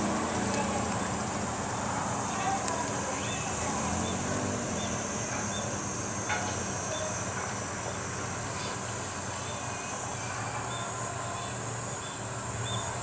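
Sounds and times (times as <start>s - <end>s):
diesel railcars idling: 0.0s - 13.0s.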